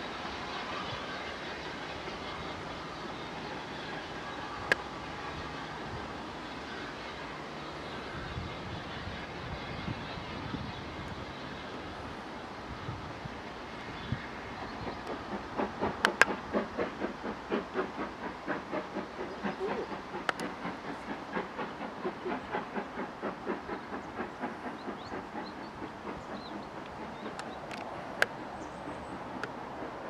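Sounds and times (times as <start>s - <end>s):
steam locomotive exhaust beats: 0.0s - 30.0s.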